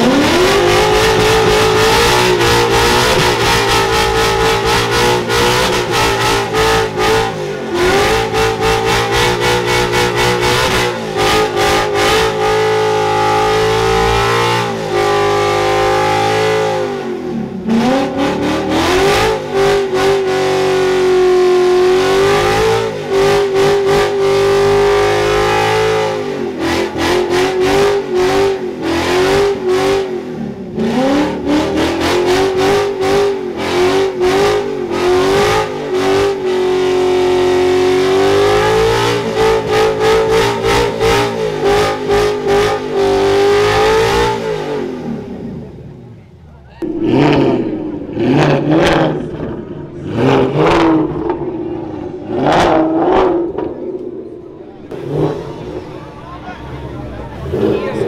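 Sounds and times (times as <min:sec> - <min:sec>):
car engine bouncing off rev limiter: 0:00.0 - 0:20.3, 0:30.7 - 0:57.8.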